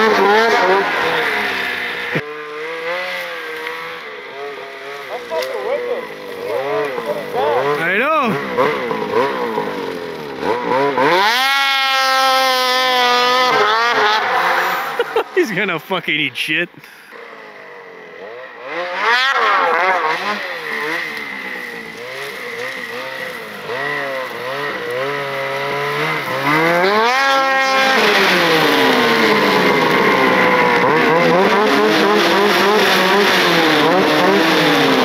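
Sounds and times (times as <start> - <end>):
snowmobile engine revving: 0.0 - 35.0.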